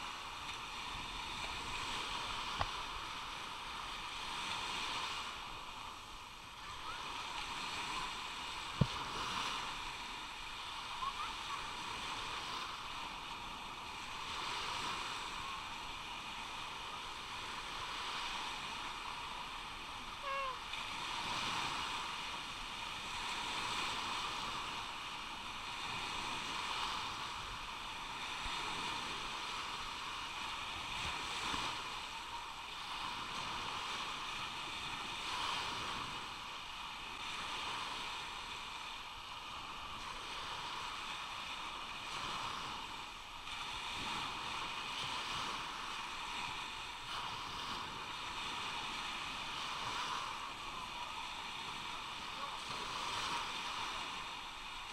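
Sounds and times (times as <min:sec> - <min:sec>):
waves washing onto sand: 0:00.0 - 0:54.9.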